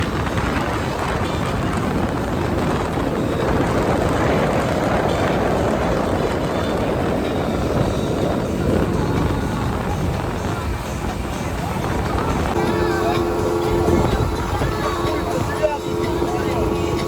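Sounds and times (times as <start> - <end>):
outboard motor drone: 0.0 - 17.0
rush of wind and water: 0.0 - 17.0.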